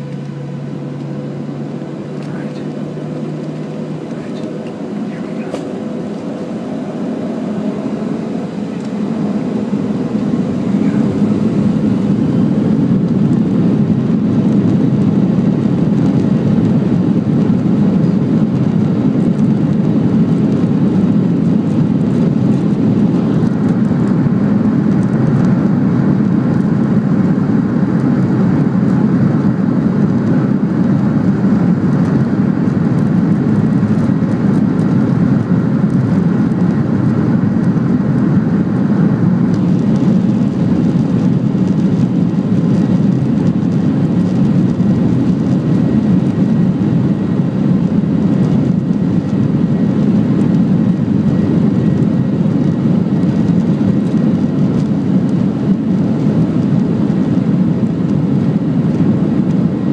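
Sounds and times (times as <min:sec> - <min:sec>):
jet engines and airframe drone: 0:00.0 - 0:59.9.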